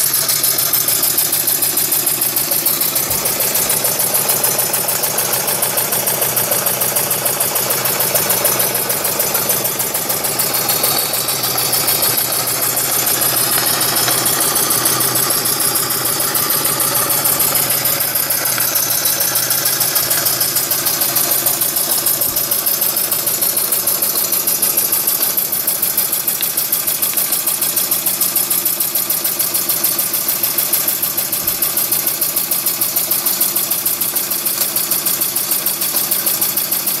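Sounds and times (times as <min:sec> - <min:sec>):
steam engine running: 0:00.0 - 0:37.0.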